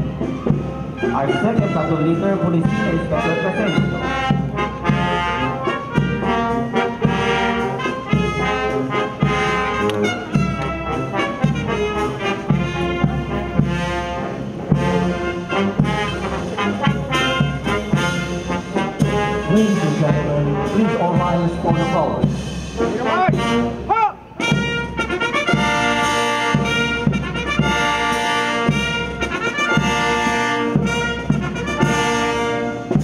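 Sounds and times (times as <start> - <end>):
brass band playing a march: 0.0 - 33.0.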